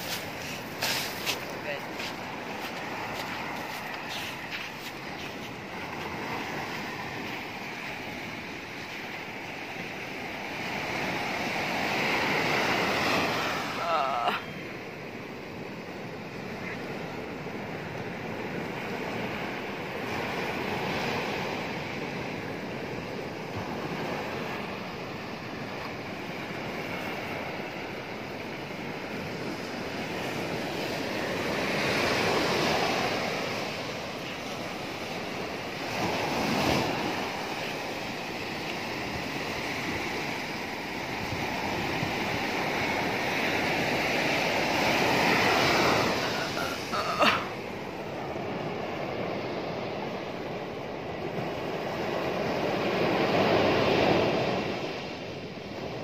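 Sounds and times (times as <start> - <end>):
waves washing up a gravel beach: 0.0 - 56.0.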